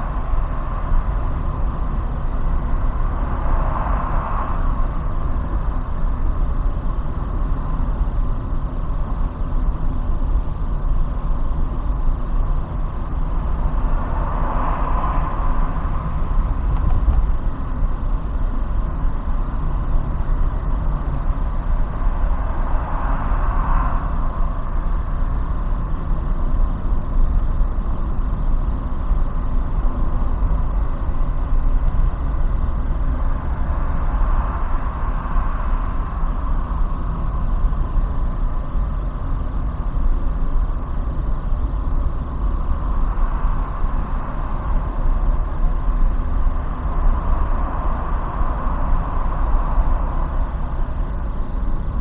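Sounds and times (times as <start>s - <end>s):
car road noise rumble: 0.0s - 52.0s.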